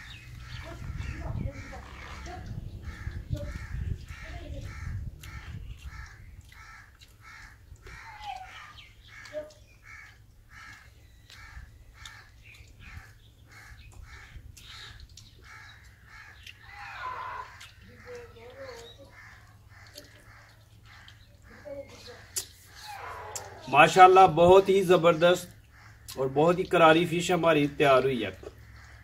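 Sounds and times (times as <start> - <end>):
bird calling repeatedly: 0.0 - 29.0.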